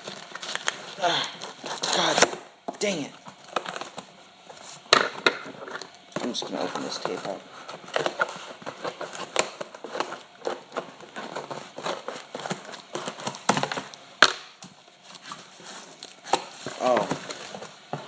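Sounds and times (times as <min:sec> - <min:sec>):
packaging tape and cardboard tearing: 0:00.0 - 0:18.0.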